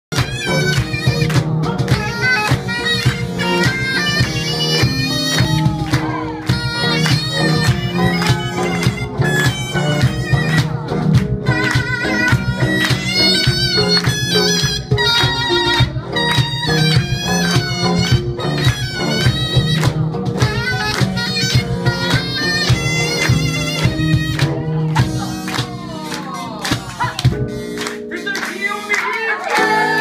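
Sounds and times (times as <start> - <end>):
drum and percussion strokes: 0.1 - 27.8
reedy wind instrument melody: 0.1 - 30.0.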